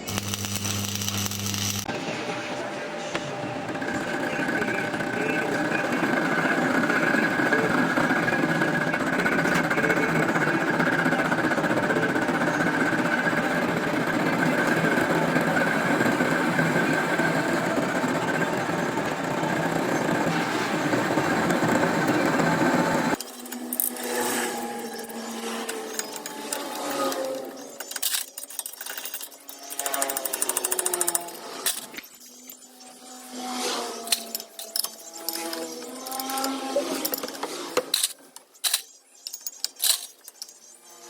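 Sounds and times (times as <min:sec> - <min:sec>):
motorised tool rattling: 0:00.0 - 0:02.0, 0:03.1 - 0:40.6.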